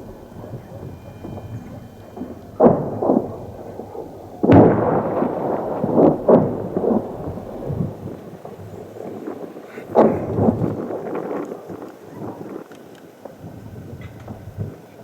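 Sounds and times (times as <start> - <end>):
explosions with rolling echo: 0.0 - 13.9.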